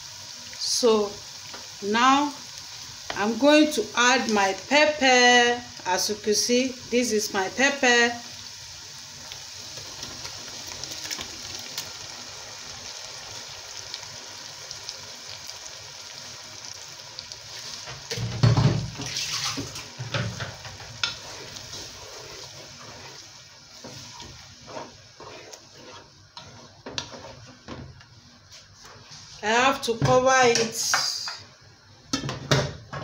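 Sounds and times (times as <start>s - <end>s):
puree sizzling in hot oil: 0.0s - 29.4s.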